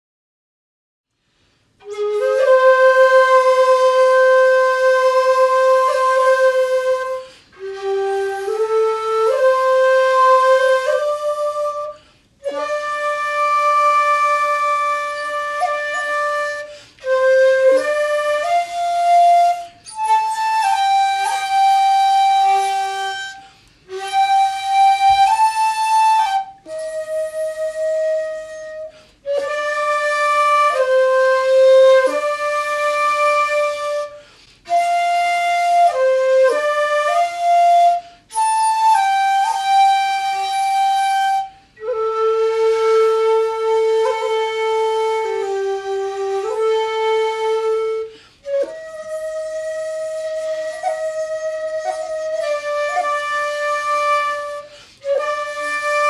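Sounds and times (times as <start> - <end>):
bamboo flutes duet: 1.3 - 56.0.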